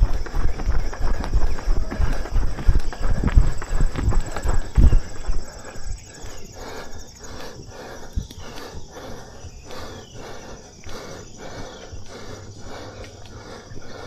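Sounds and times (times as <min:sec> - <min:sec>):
insects chirping: 0:00.0 - 0:14.0
jogging footsteps: 0:00.0 - 0:14.0.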